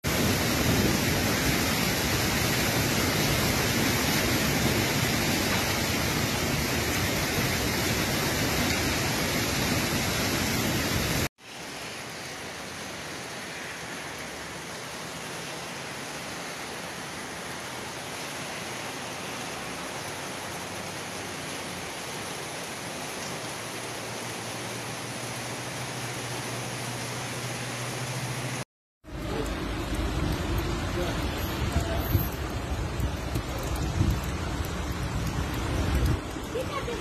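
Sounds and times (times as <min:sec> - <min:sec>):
hail and heavy rain on rooftops: 0:00.0 - 0:27.2, 0:29.0 - 0:37.0.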